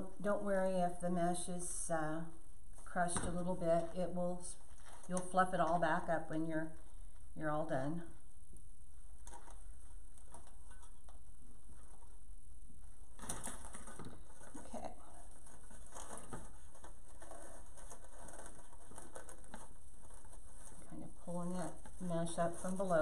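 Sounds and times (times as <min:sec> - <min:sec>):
low steady hum: 0:00.0 - 0:23.0
mesh rustling and crackling: 0:02.6 - 0:07.0, 0:08.9 - 0:23.0.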